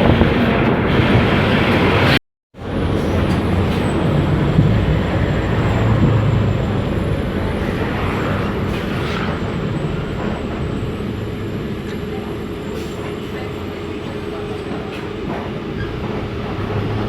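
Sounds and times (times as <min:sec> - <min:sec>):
road noise: 0:00.0 - 0:17.0
bus diesel engine rumble: 0:02.6 - 0:17.0.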